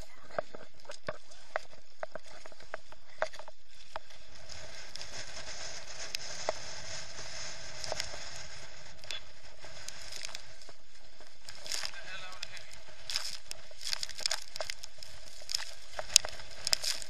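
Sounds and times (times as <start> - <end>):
muffled wind rush: 0.0 - 17.0.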